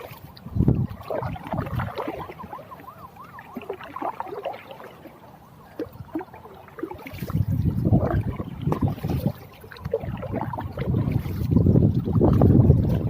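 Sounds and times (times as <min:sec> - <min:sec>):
water sloshing around boat: 0:00.0 - 0:13.0.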